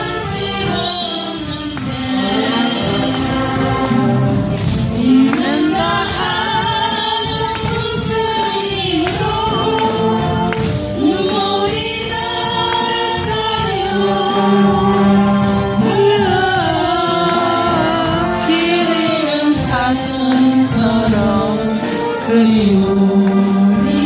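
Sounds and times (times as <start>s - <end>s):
voices singing: 0.0s - 24.0s
wind band playing: 0.0s - 24.0s.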